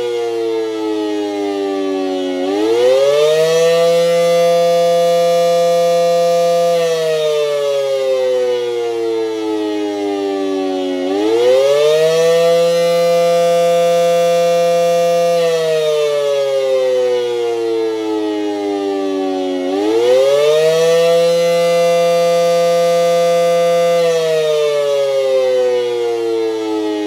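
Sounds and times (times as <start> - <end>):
warning siren wailing: 0.0 - 27.0.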